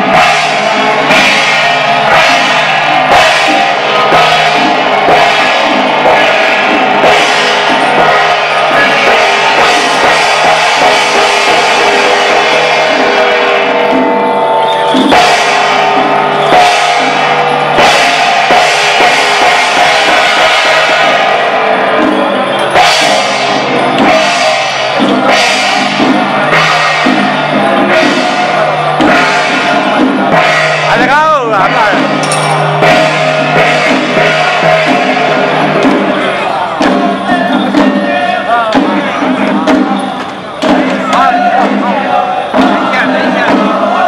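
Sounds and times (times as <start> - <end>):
drum beating: 0.0 - 44.0
gongs and cymbals: 0.0 - 44.0.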